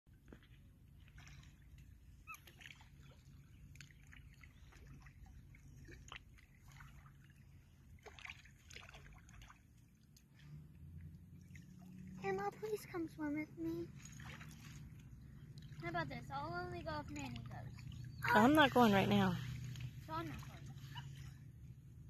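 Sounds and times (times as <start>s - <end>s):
water lapping at shore: 0.1s - 22.0s.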